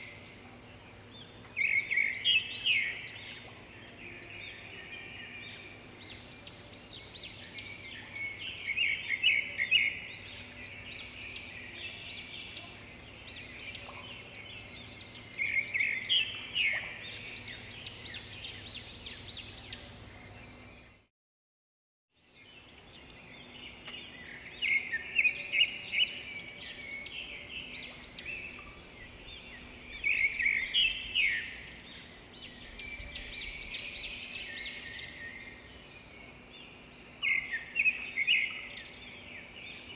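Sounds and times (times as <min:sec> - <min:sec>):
small birds chirping: 0:00.0 - 0:21.1, 0:22.2 - 0:39.9.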